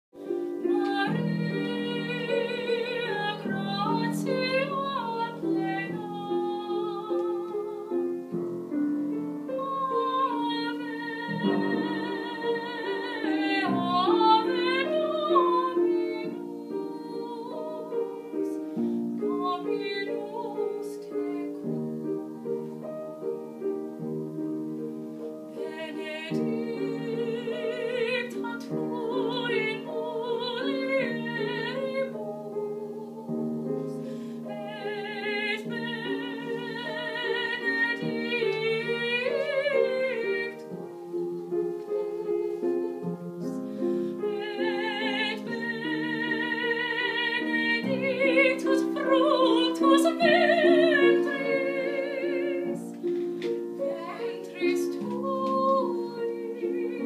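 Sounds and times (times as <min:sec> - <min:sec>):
piano chords: 0:00.2 - 0:57.0
woman singing with vibrato: 0:00.6 - 0:08.2, 0:09.5 - 0:22.4, 0:25.5 - 0:57.0.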